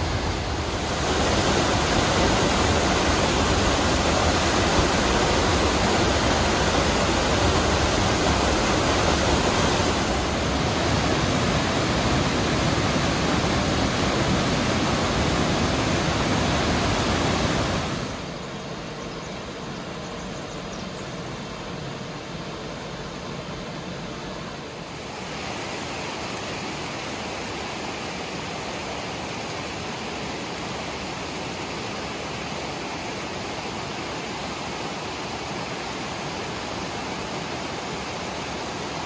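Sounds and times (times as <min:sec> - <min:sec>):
waterfall rushing: 0:00.0 - 0:18.4, 0:24.6 - 0:39.0.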